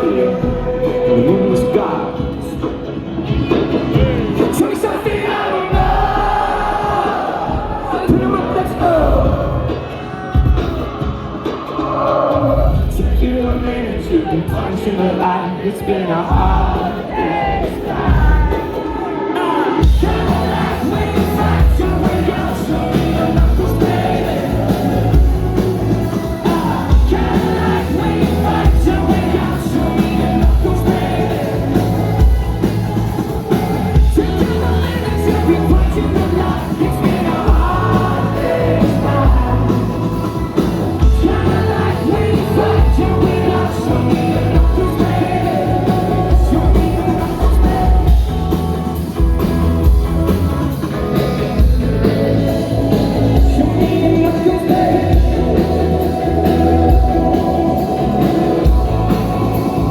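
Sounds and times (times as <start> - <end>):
person singing: 0.0 - 49.6, 51.6 - 59.9
rock band playing live: 0.0 - 59.9.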